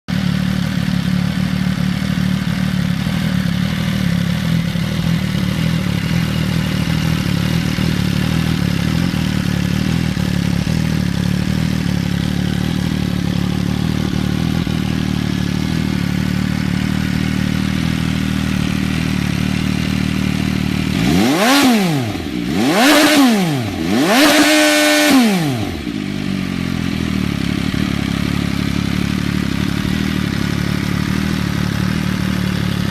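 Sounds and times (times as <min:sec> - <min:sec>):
motorcycle engine idling: 0:00.1 - 0:32.9
motorcycle engine revving: 0:00.1 - 0:32.9.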